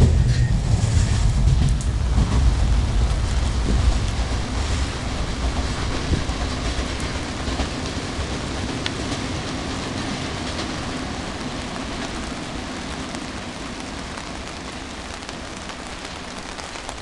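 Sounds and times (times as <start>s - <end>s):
electric train rumbling: 0.0s - 17.0s
rain hissing: 0.0s - 17.0s.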